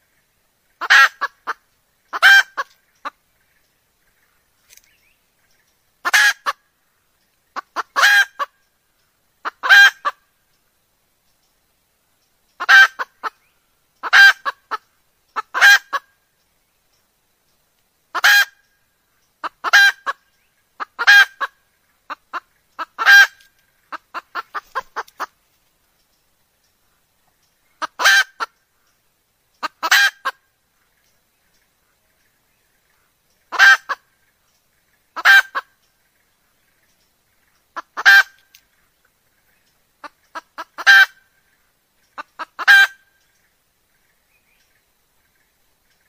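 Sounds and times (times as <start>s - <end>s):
junglefowl hen calling: 0.0s - 10.6s, 12.5s - 16.3s, 18.1s - 25.4s, 26.8s - 46.0s.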